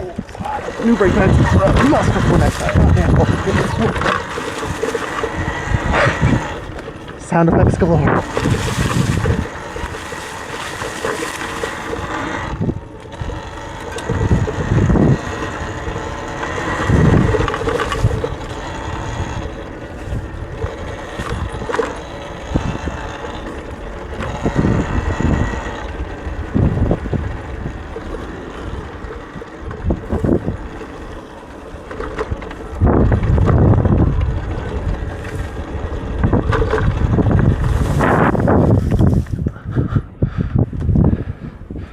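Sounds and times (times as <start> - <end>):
electric motor whine: 0.0 - 39.5
wind buffeting microphone: 0.0 - 41.9.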